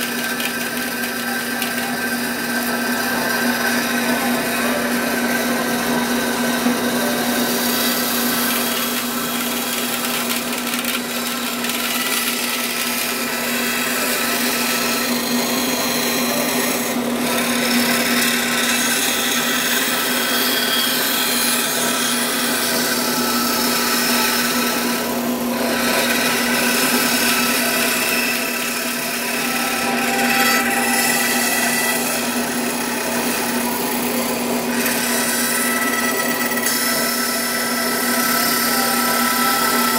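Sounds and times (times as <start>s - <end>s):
bandsaw humming: 0.0s - 39.9s.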